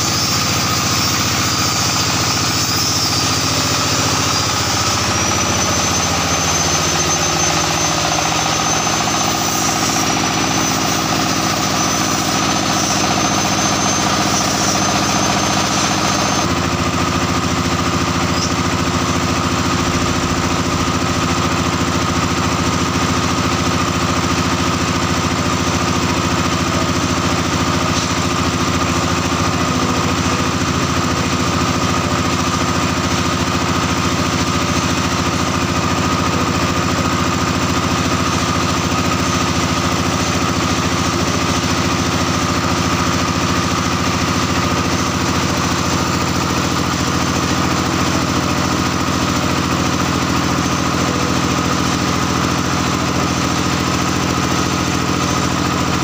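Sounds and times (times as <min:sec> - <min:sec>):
diesel engine idling with knocking: 0:00.0 - 0:56.0.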